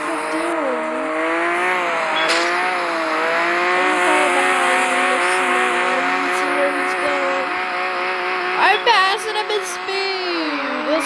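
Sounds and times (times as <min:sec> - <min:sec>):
video game car engines: 0:00.0 - 0:11.0.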